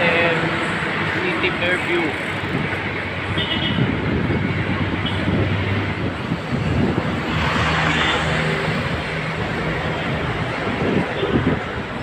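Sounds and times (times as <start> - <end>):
road noise: 0.0 - 12.0
vehicle engines running: 0.0 - 12.0.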